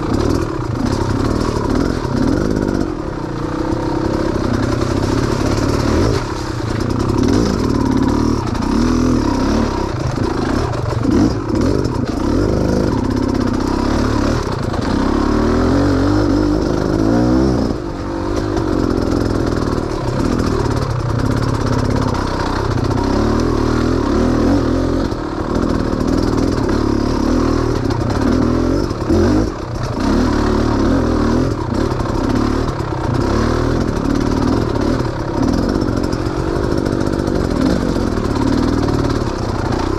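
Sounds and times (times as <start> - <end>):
small off-road engine revving: 0.0 - 39.9
vehicle rattling over rough ground: 0.0 - 39.9.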